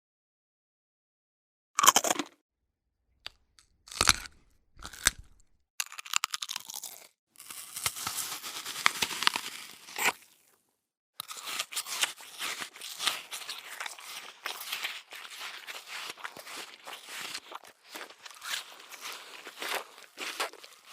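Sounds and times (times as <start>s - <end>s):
crunchy chewing and tearing: 1.8s - 2.3s, 3.3s - 10.6s, 11.2s - 20.9s
crisp bites: 3.3s - 10.6s, 11.2s - 20.9s.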